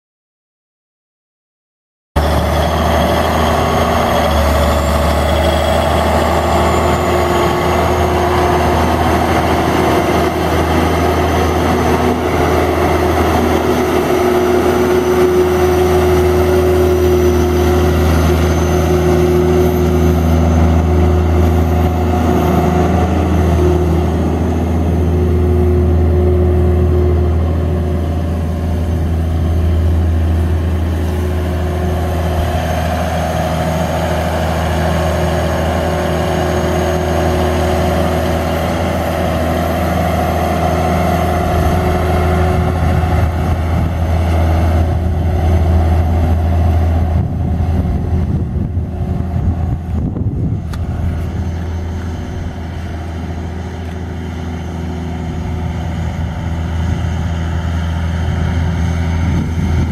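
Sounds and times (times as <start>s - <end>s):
tractor diesel engine running: 2.2s - 59.9s.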